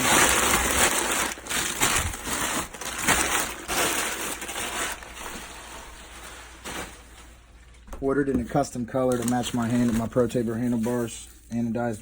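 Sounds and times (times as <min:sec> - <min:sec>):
packaging crinkling: 0:00.0 - 0:07.9, 0:08.5 - 0:11.6.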